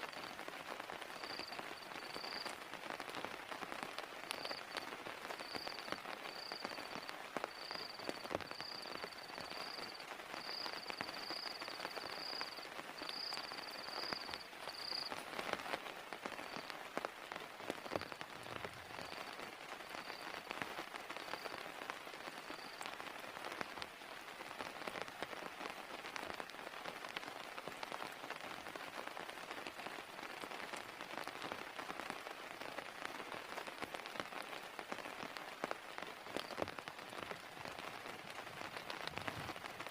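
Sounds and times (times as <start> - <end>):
heavy rain falling: 0.0 - 39.9
raindrops ticking close by: 0.0 - 39.9.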